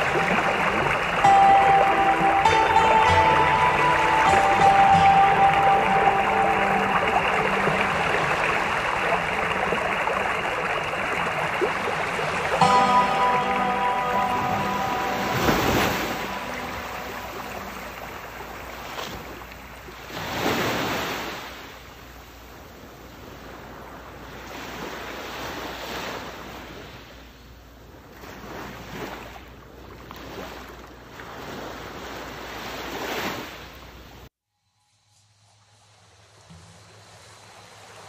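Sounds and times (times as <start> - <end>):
sea waves washing onto beach: 0.0 - 34.1.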